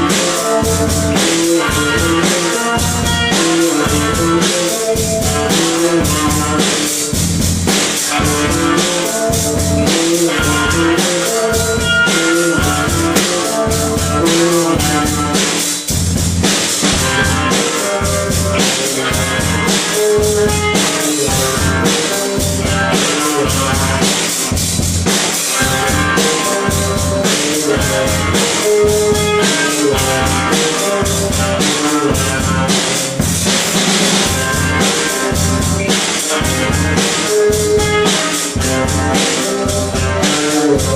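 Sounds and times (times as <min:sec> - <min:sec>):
drum kit beat: 0:00.0 - 0:40.9
guitar riffs: 0:00.0 - 0:40.9
rock band playing: 0:00.0 - 0:40.9.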